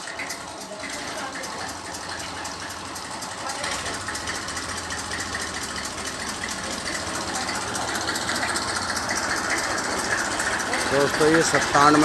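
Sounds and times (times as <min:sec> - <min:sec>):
tractor diesel engine clatter: 0:00.0 - 0:12.0.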